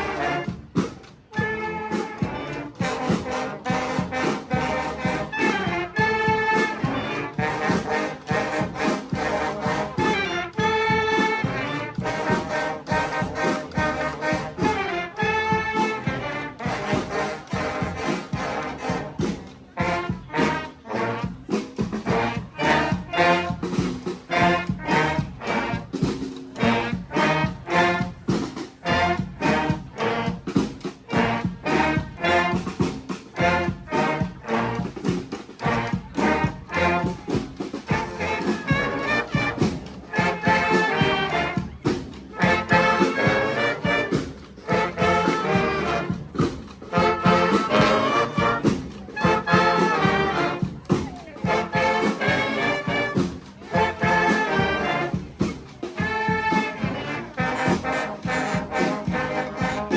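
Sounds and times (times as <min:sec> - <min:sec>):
brass band playing funk: 0:00.0 - 0:59.9
steady drum beat: 0:00.0 - 0:59.9.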